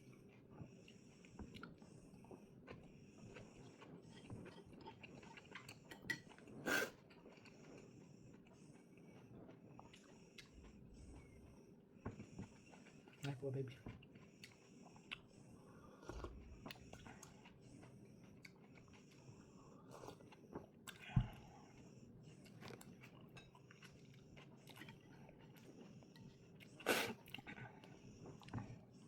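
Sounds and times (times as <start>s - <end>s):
person chewing and crunching food: 0.0s - 29.0s.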